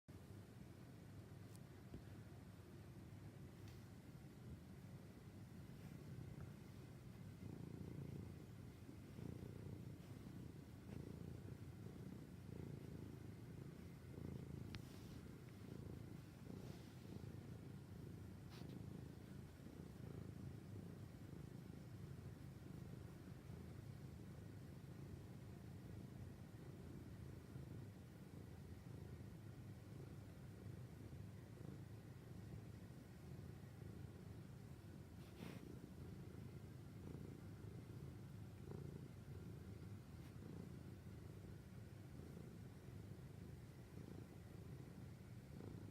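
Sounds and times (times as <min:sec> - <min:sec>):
cat purring: 0:00.1 - 0:45.9.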